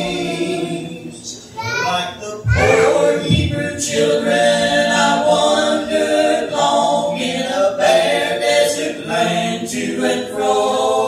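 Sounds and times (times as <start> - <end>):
gospel group singing in harmony: 0.0 - 11.0.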